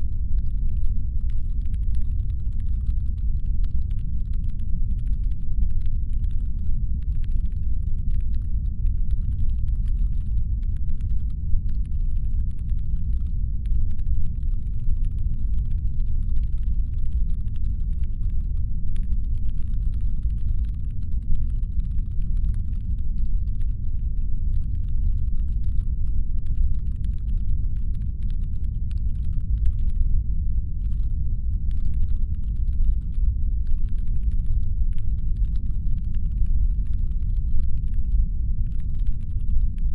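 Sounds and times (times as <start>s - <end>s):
faint patter of tiny clicks: 0.0s - 30.1s, 30.7s - 39.9s
deep brown-noise rumble: 0.0s - 39.9s.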